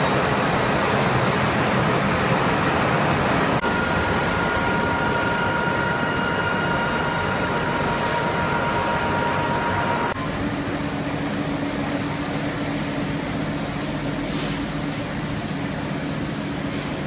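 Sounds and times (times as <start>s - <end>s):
factory machinery din: 0.0s - 17.0s
two-tone high whine: 0.0s - 17.0s.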